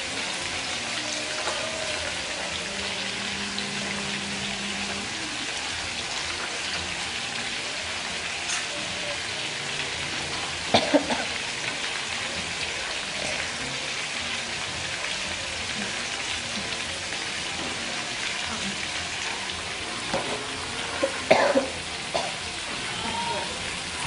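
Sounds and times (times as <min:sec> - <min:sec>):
meat frying in hot oil: 0:00.0 - 0:24.0.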